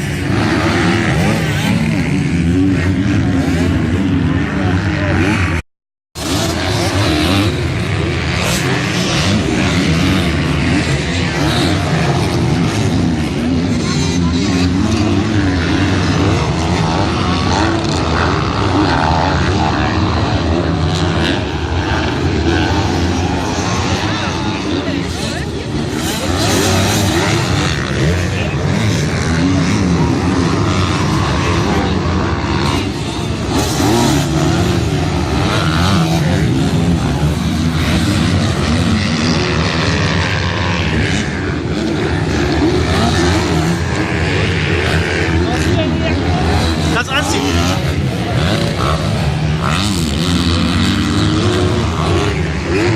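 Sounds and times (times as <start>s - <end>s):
motocross bike engines revving: 0.0s - 5.6s, 6.2s - 52.9s.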